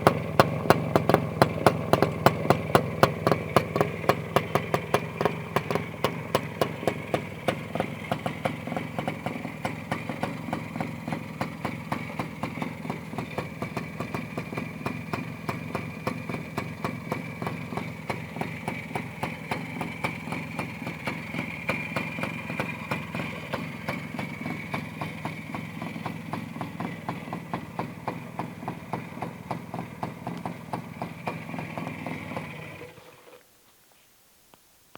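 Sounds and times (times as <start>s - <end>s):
two-stroke motorcycle engine idling: 0.0s - 33.4s.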